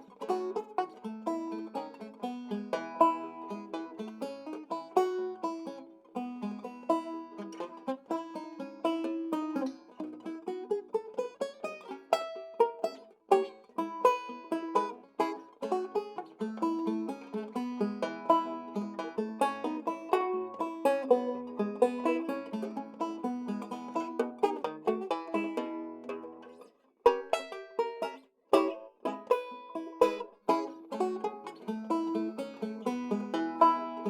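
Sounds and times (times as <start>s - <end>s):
banjo playing ragtime tune: 0.0s - 34.0s.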